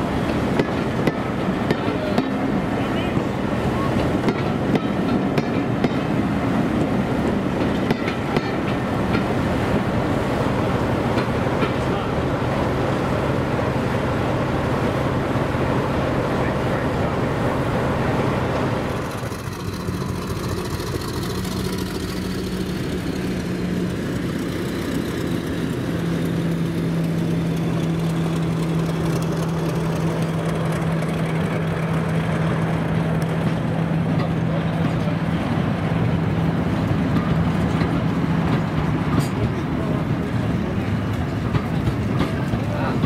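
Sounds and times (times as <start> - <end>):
diesel locomotive engine running: 0.0 - 43.0.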